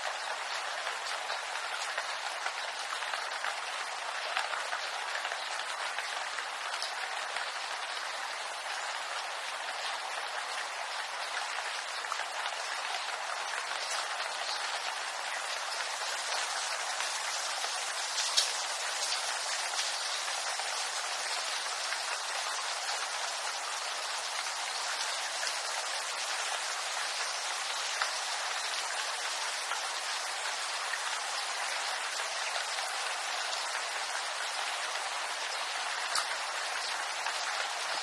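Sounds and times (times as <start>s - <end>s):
rain on leaves: 0.0s - 38.0s.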